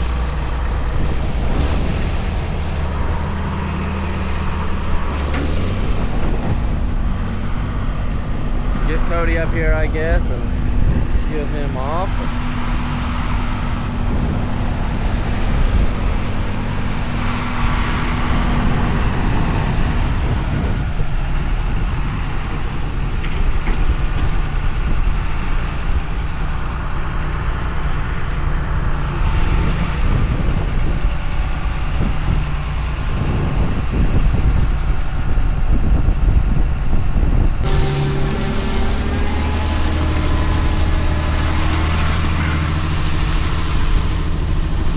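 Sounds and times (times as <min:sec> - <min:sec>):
large diesel engine running: 0:00.0 - 0:44.9.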